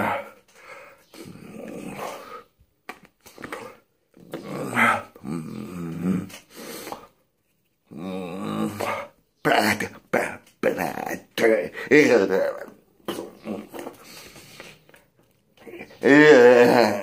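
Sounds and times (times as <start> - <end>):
man making non-word sounds: 0.0 - 7.1, 7.8 - 14.0, 15.5 - 17.0.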